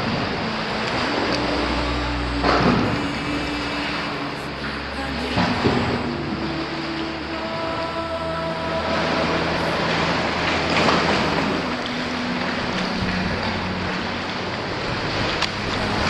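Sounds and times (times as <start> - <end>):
sea washing: 0.0 - 16.0.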